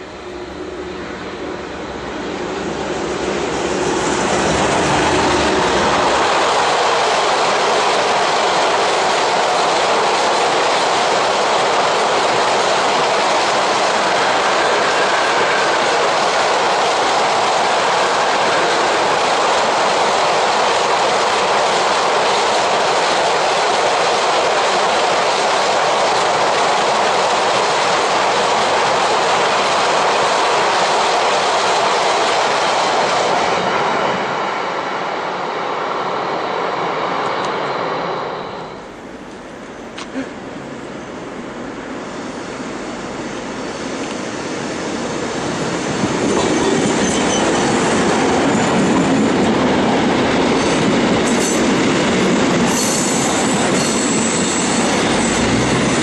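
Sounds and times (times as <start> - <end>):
electric locomotive humming: 0.0 - 56.0
freight train wheels on rail: 0.0 - 56.0.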